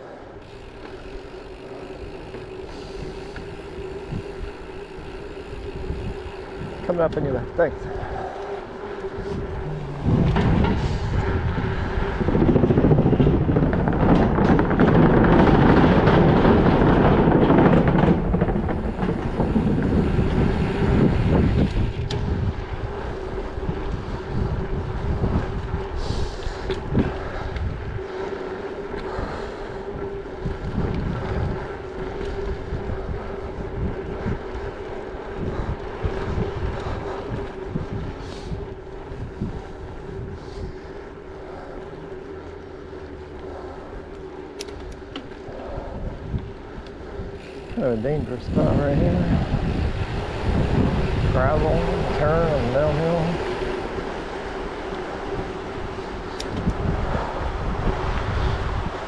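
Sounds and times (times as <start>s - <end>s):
bicycle tyres rumbling: 0.0s - 59.0s
wind on microphone: 0.0s - 59.0s.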